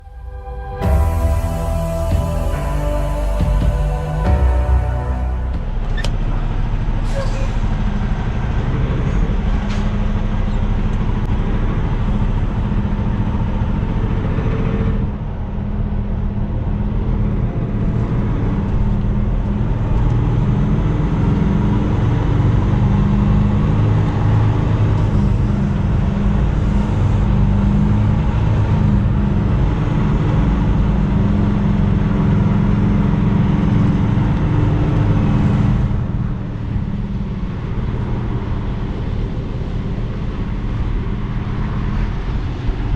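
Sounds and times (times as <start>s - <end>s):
road noise: 0.0s - 42.9s
truck engine drone: 0.0s - 42.9s.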